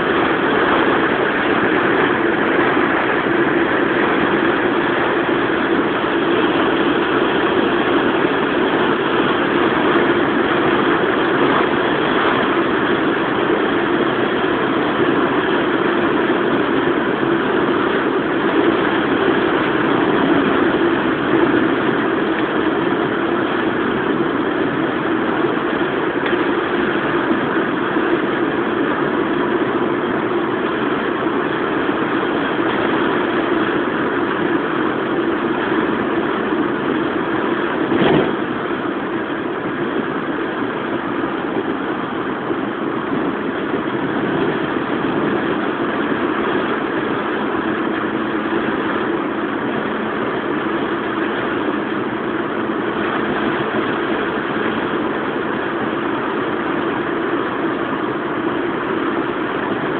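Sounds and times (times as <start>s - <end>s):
loud rushing noise with hum: 0.0s - 59.9s.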